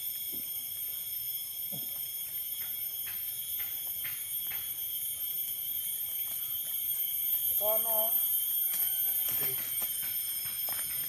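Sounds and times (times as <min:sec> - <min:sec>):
shrill insect chorus: 0:00.0 - 0:11.0.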